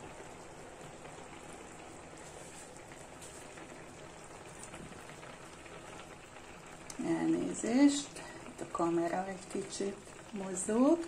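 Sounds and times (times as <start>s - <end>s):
stew bubbling in a pan: 0.0s - 11.0s.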